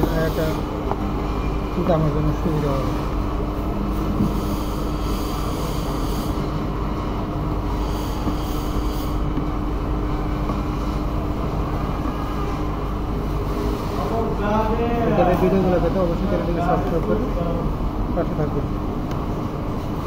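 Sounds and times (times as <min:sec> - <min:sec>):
mechanical hum and hiss: 0:00.0 - 0:20.0.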